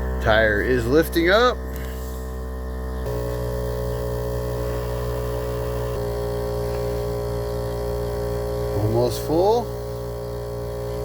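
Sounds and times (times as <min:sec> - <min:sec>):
air compressor motor hum: 0:00.0 - 0:11.0.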